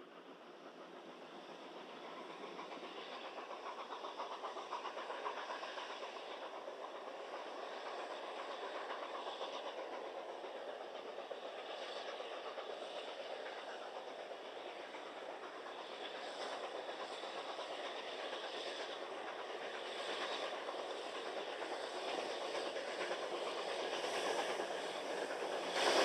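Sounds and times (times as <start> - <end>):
steam locomotive exhaust chuffs: 0.0 - 26.0.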